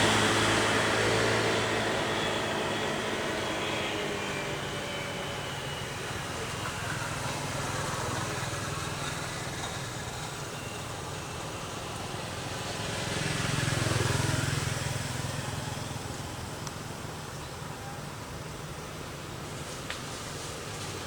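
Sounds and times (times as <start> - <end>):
outdoor background noise: 0.0 - 21.0
vehicle engine hum passing by: 0.0 - 21.0.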